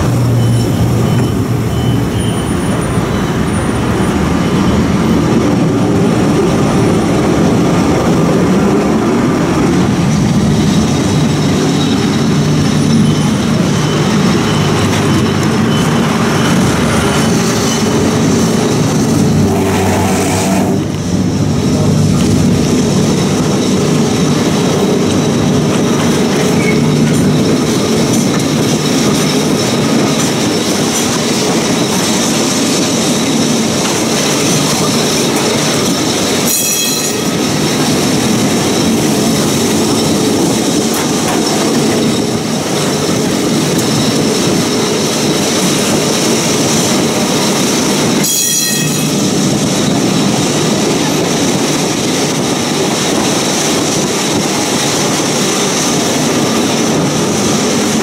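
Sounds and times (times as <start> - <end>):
high wheel squeal: 0.0 - 5.4, 10.5 - 21.8, 23.4 - 58.0
tram wheels rumbling on rails: 0.0 - 58.0.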